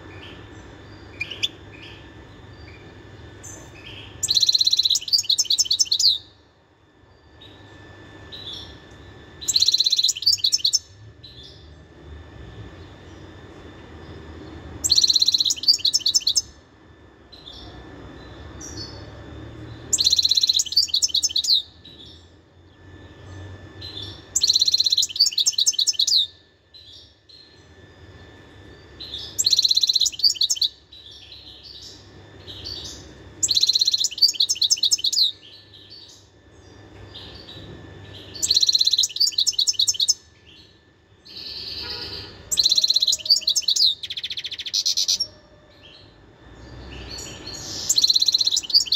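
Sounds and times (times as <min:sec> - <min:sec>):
finch twittering song: 0:00.0 - 0:06.4, 0:09.4 - 0:11.7, 0:14.1 - 0:16.6, 0:17.3 - 0:27.7, 0:28.8 - 0:48.9.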